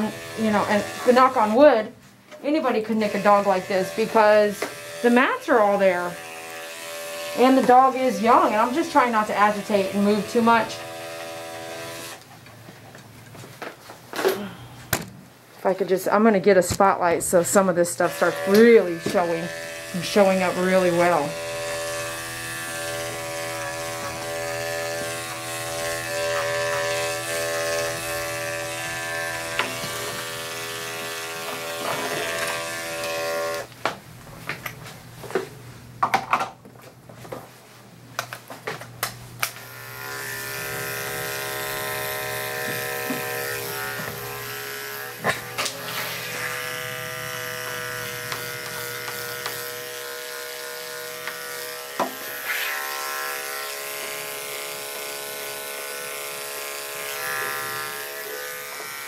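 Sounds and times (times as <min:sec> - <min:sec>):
electric clipper humming: 0:00.0 - 0:01.8, 0:02.4 - 0:12.2, 0:17.9 - 0:33.7, 0:39.0 - 0:59.0.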